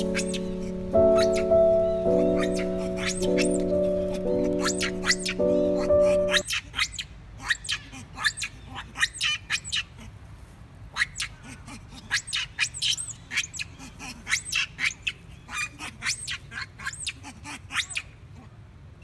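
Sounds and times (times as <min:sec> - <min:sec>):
high-pitched squeaky animal calls: 0:00.0 - 0:10.0, 0:11.0 - 0:18.1.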